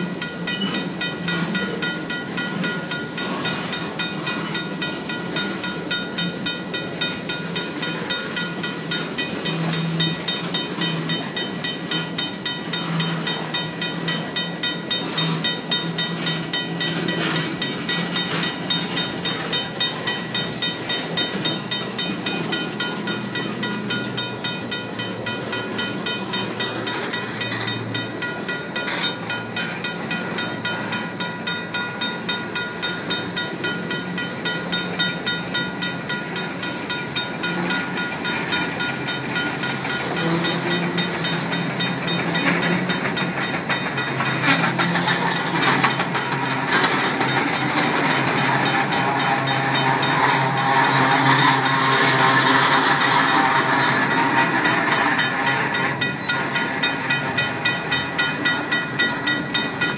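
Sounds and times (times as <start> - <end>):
railroad crossing bell ringing: 0.0 - 59.9
train wheels rumbling on rails: 0.0 - 59.9.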